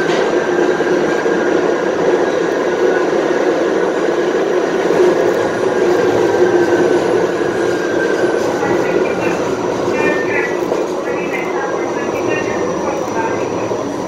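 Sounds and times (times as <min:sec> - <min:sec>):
subway car howling whine: 0:00.0 - 0:14.0
wheels rumbling on rail: 0:00.0 - 0:14.0.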